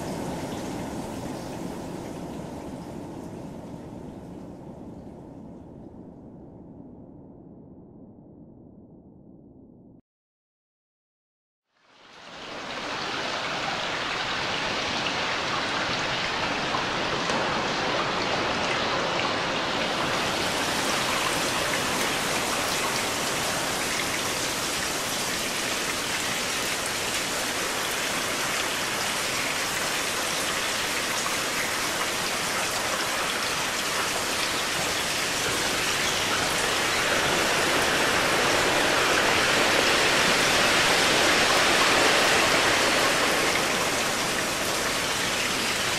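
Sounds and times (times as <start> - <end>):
dense rain texture: 0.0 - 6.0, 11.7 - 45.9.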